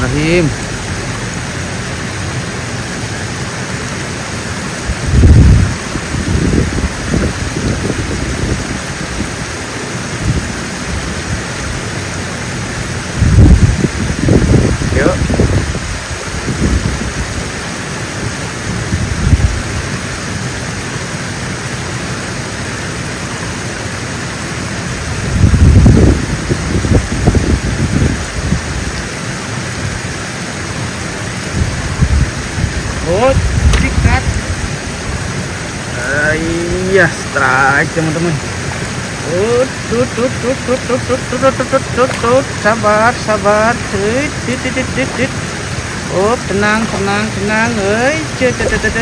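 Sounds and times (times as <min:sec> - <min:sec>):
water pouring over weir: 0:00.0 - 0:49.0.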